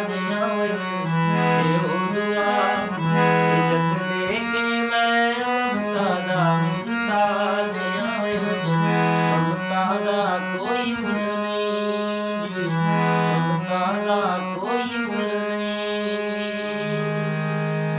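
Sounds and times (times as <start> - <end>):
person singing: 0.0 - 17.4
harmonium: 0.0 - 17.9.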